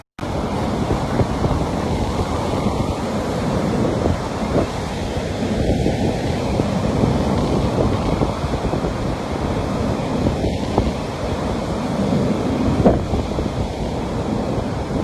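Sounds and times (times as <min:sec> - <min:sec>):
sea waves breaking on beach: 0:00.0 - 0:15.0
wind buffeting microphone: 0:00.2 - 0:15.0.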